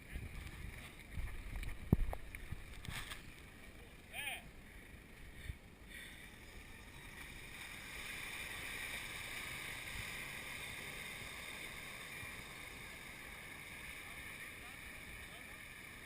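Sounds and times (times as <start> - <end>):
constant hiss: 0.0 - 16.0
faint low hum: 0.0 - 16.0
suv engine running: 0.0 - 16.0.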